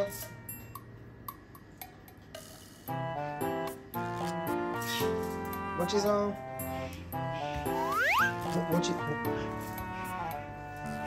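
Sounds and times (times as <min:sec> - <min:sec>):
sustained background music: 0:00.0 - 0:11.0.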